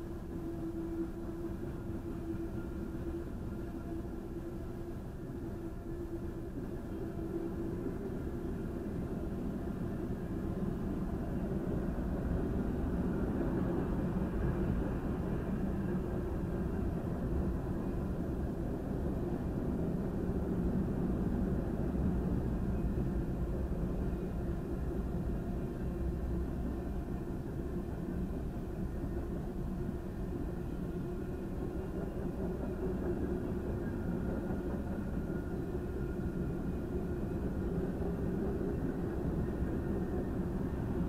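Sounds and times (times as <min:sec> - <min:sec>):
train wheels on rail: 0:00.0 - 0:41.0.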